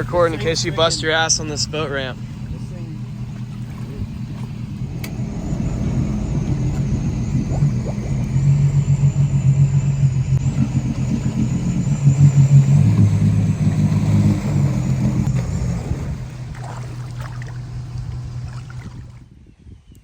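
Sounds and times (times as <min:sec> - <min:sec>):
engine running and revving: 0:00.0 - 0:19.3.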